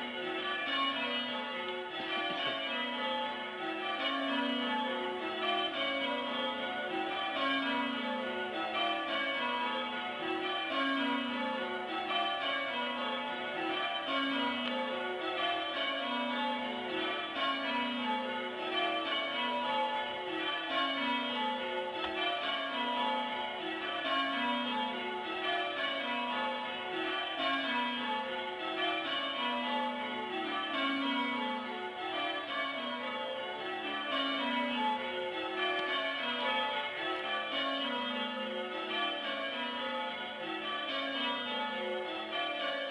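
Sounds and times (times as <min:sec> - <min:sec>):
church bells change ringing: 0:00.0 - 0:42.9.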